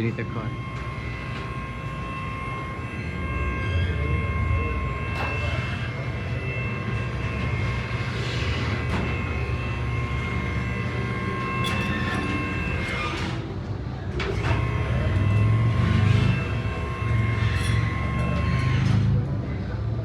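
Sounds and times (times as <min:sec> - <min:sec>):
steady high tones: 0:00.0 - 0:19.2
low mechanical rumble: 0:00.0 - 0:20.0.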